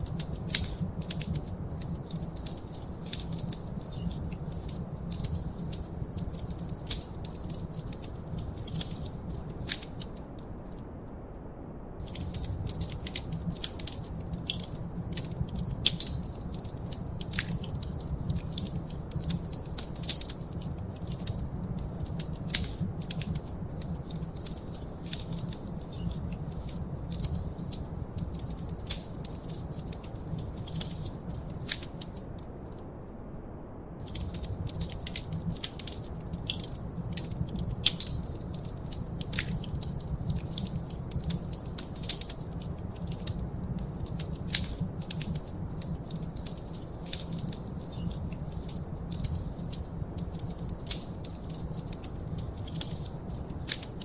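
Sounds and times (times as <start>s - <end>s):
wood fire crackling: 0.0s - 11.0s, 12.0s - 33.0s, 34.0s - 54.0s.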